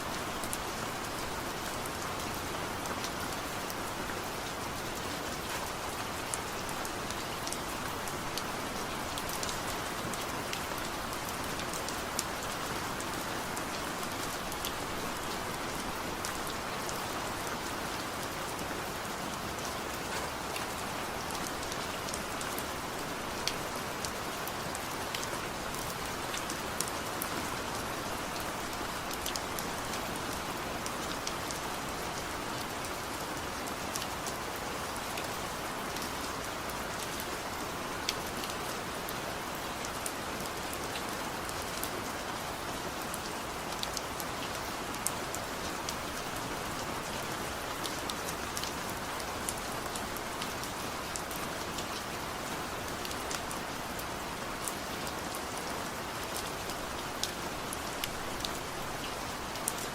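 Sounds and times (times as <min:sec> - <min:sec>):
light rain falling: 0:00.0 - 0:59.9
raindrops ticking on a surface: 0:00.0 - 0:59.9.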